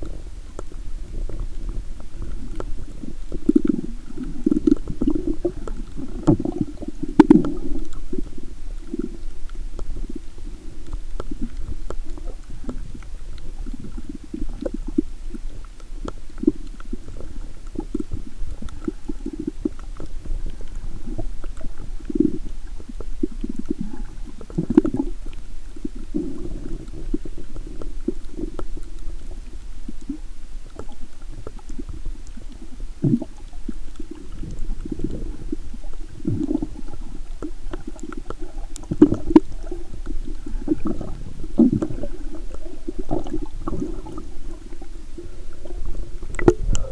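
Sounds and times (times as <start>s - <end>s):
muffled underwater water noise: 0.0s - 46.9s.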